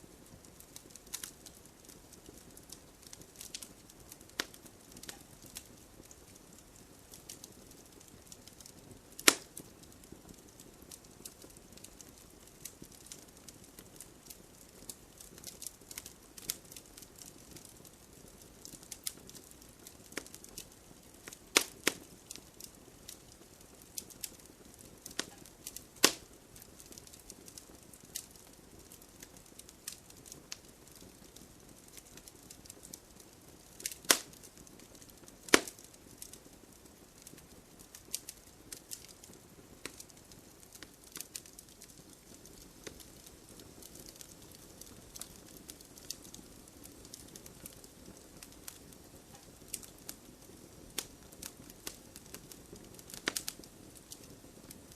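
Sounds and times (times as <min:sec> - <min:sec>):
campfire crackling: 0:00.0 - 0:54.9
loud pops of burning wood: 0:00.2 - 0:54.9.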